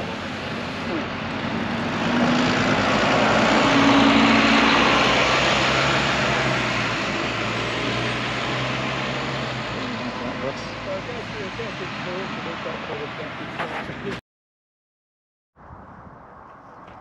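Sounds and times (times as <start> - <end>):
bus engine pulling away: 0.0 - 14.2
road noise: 0.0 - 14.2.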